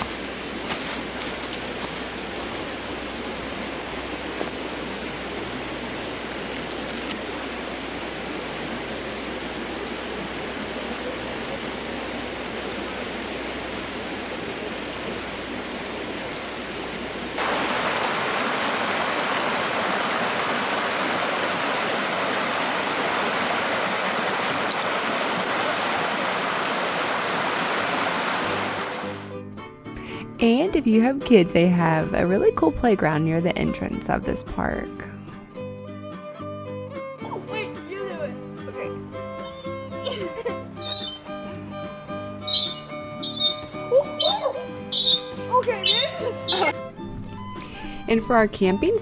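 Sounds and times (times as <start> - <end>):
creek water running: 0.0 - 29.3, 37.3 - 49.0.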